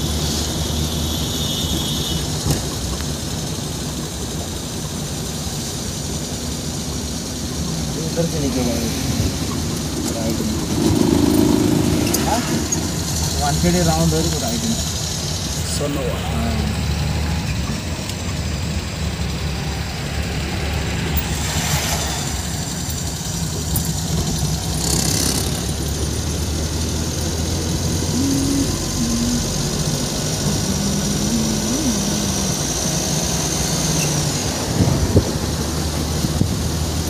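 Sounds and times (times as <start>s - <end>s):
car engine and road noise: 0.0s - 37.0s
passing traffic: 0.0s - 37.0s.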